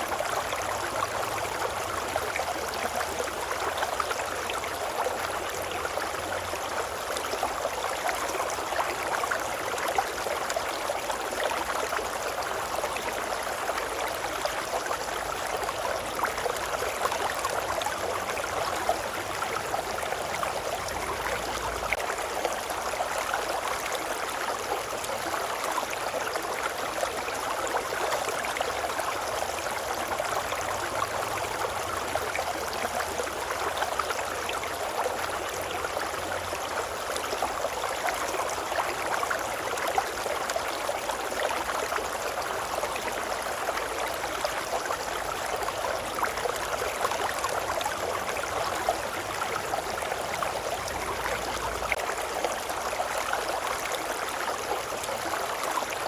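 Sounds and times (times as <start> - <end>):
brook water bubbling and rushing: 0.0 - 56.0.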